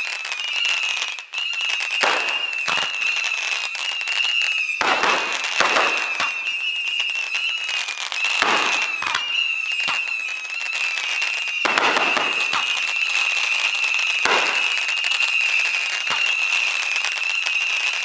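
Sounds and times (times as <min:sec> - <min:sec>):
fireworks bangs: 0:00.0 - 0:18.0
fireworks crackle: 0:00.0 - 0:18.0.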